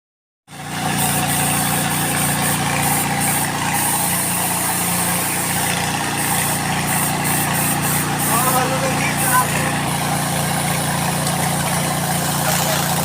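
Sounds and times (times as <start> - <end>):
motor running steadily: 0.5 - 13.0.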